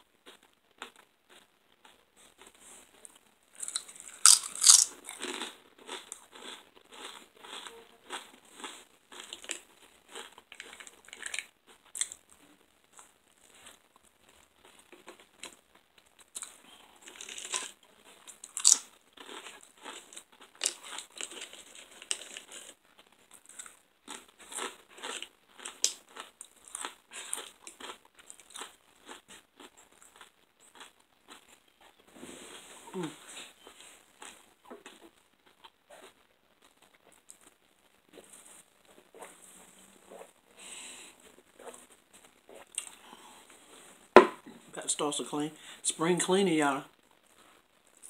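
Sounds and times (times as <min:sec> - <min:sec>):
person chewing crunchy food: 0:00.2 - 0:44.6.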